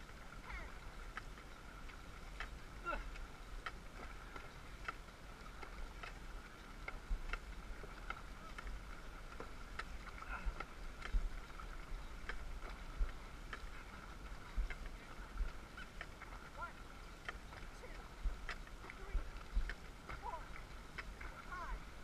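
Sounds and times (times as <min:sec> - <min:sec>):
paddles splashing through water: 0:00.0 - 0:22.0
wind rumble on microphone: 0:00.0 - 0:22.0.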